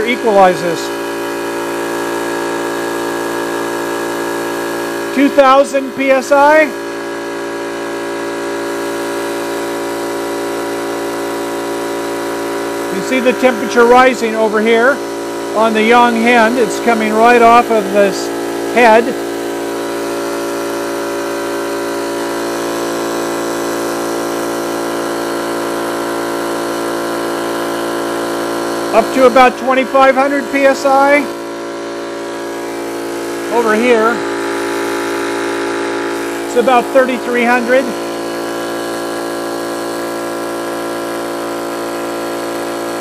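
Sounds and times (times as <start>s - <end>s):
air compressor running: 0.0s - 43.0s.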